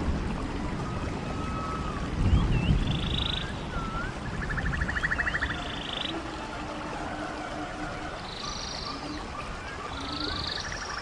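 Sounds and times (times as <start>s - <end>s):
running stream: 0.0s - 11.0s
animal whistles and trills: 0.8s - 11.0s.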